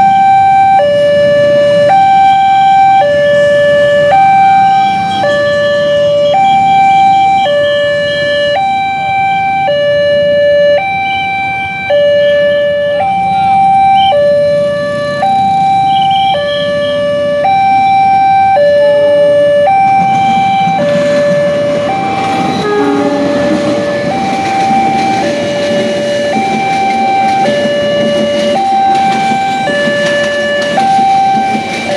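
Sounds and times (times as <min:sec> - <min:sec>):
diesel locomotive rumble: 0:00.0 - 0:31.9
level crossing two-tone alarm: 0:00.0 - 0:31.9.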